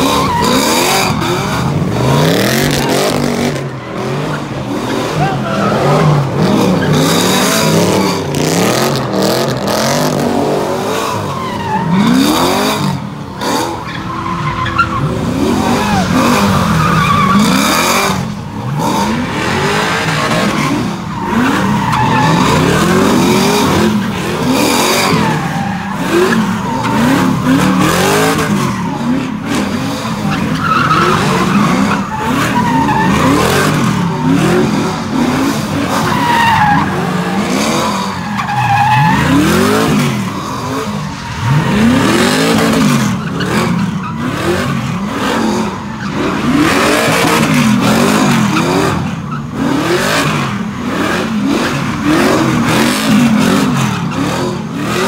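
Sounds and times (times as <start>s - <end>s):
car engine revving hard: 0.0s - 55.0s
tyres skidding and squealing: 0.0s - 55.0s.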